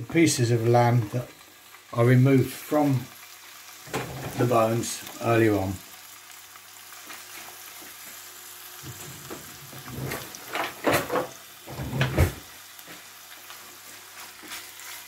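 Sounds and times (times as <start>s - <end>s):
meat sizzling in a hot pan: 0.0s - 15.0s.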